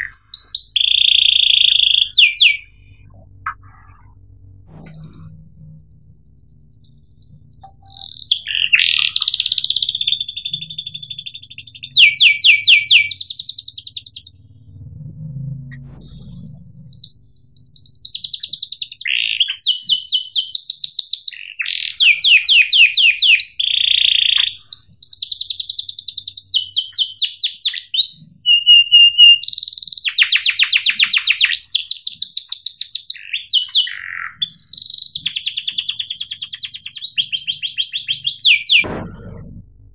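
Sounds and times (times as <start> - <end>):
canary singing trills: 0.0 - 15.1, 15.7 - 39.9.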